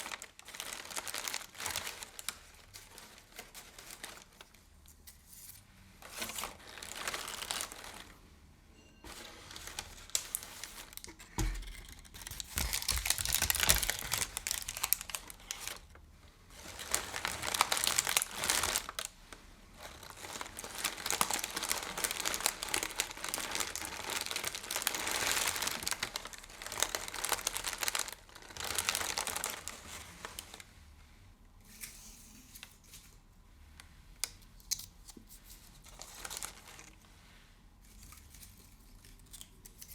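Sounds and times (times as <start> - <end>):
crinkling material handled: 0.0 - 31.6, 34.7 - 39.8.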